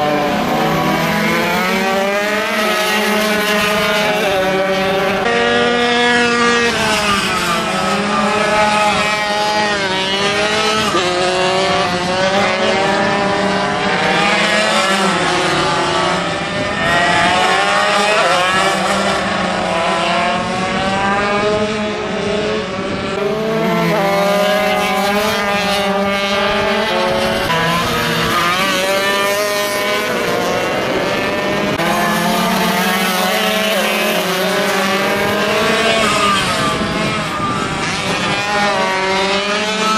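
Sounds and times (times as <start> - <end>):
minibike engines revving: 0.0 - 39.9.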